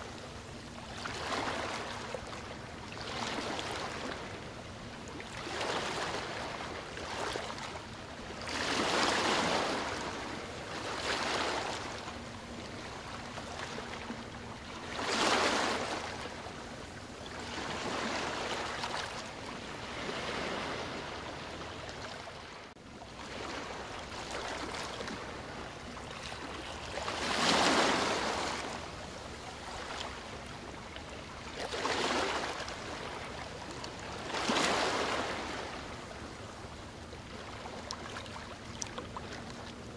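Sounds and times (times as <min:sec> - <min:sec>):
small waves washing against bank: 0:05.0 - 0:39.9.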